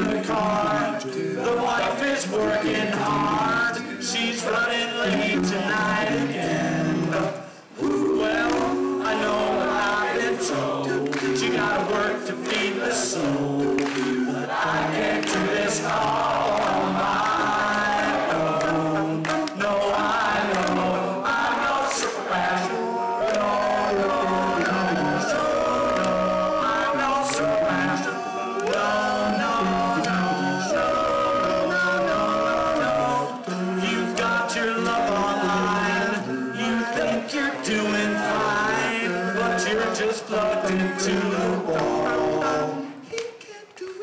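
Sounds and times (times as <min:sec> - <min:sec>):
male a cappella group singing: 0:00.0 - 0:44.0.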